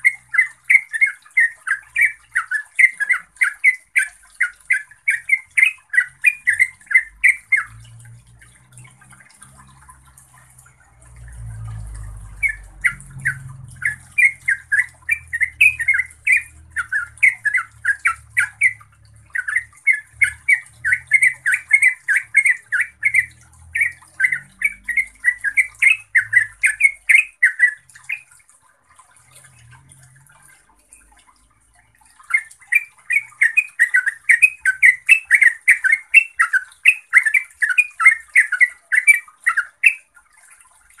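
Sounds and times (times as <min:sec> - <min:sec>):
bulbul chattering song: 0:00.0 - 0:28.6, 0:32.0 - 0:41.0.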